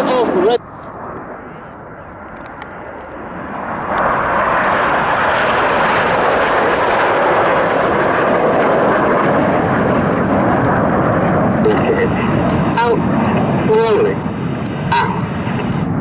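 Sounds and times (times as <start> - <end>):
jets flying past roaring: 0.0 - 16.0.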